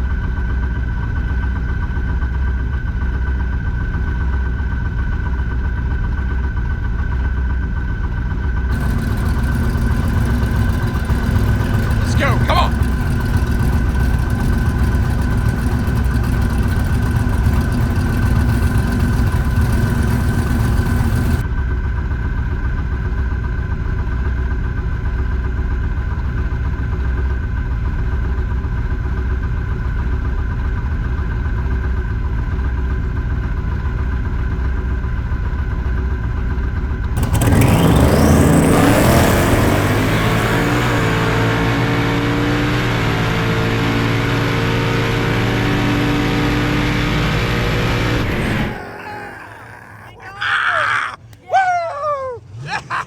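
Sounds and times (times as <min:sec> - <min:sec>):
car engine idling and revving: 0:00.1 - 0:21.4, 0:27.9 - 0:49.2, 0:52.4 - 0:53.0.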